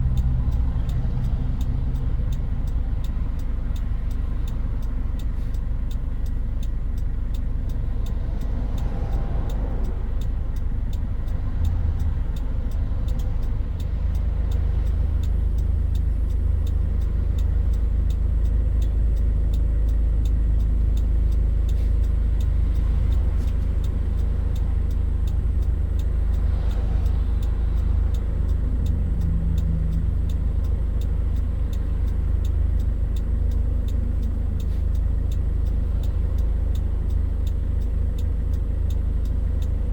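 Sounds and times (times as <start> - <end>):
engine and road rumble: 0.0 - 39.9
faint regular ticking: 0.0 - 39.9.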